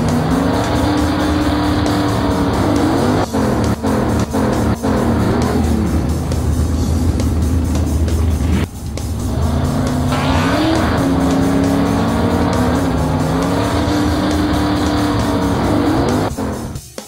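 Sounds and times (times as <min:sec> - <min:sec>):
race car engine revving: 0:00.0 - 0:16.8
background music: 0:00.0 - 0:17.0.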